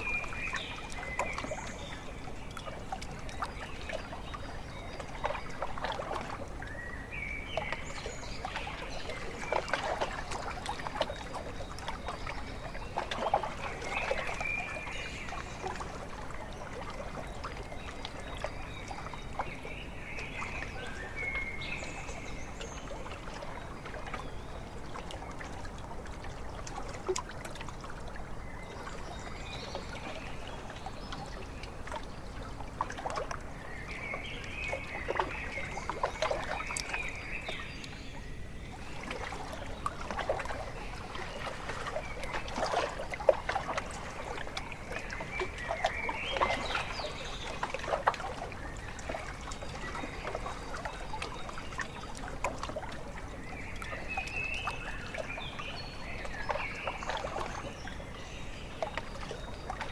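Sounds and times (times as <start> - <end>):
small waves lapping at shore: 0.0 - 59.9.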